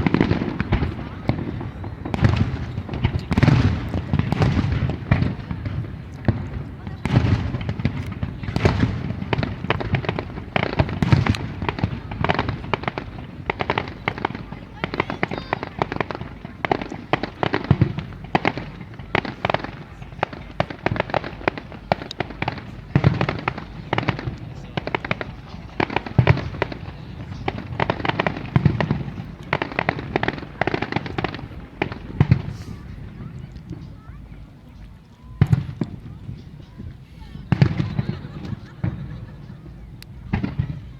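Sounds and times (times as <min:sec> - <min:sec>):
fireworks booming: 0:00.0 - 0:34.5, 0:35.2 - 0:40.9
fireworks cracking: 0:00.0 - 0:40.9.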